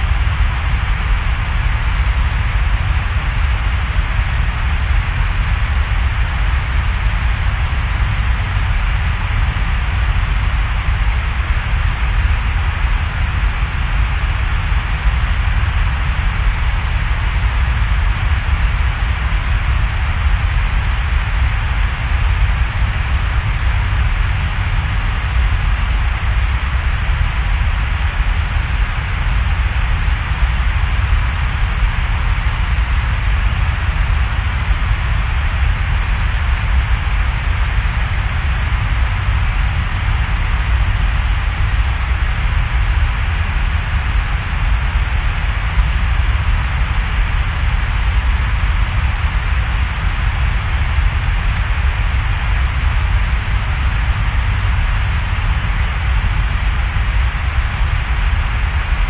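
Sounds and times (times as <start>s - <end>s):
steady hiss with deep rumble: 0.0s - 59.0s.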